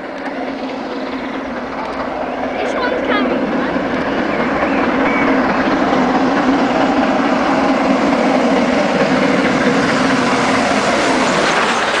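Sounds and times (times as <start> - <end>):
steam locomotive rushing past: 0.0 - 12.0
train on rails: 0.0 - 12.0.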